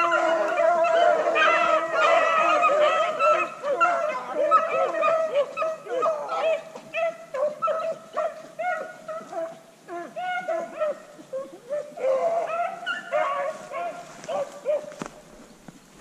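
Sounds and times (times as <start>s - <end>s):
dogs baying and barking: 0.0s - 15.3s.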